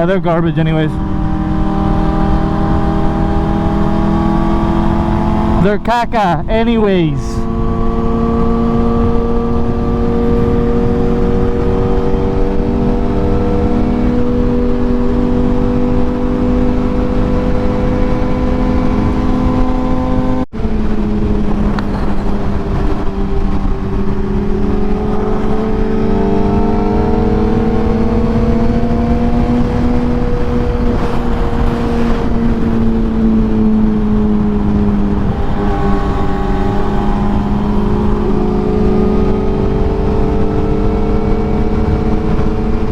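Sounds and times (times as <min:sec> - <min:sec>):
motorcycle engine cruising: 0:00.0 - 0:42.9
road noise: 0:00.0 - 0:42.9
wind rush: 0:00.0 - 0:42.9.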